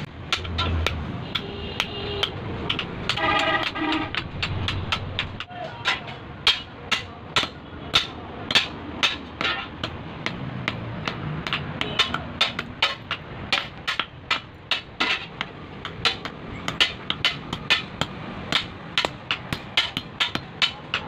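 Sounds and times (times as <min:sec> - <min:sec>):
hammer striking metal: 0:00.0 - 0:21.0.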